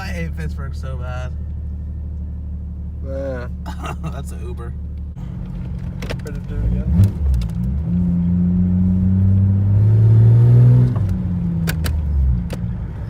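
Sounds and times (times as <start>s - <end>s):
car exhaust accelerating hard: 0.7s - 13.0s.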